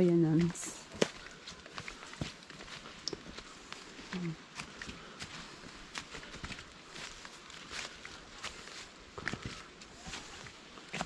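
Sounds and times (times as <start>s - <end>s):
footsteps scuffing on trail: 0.0s - 11.0s.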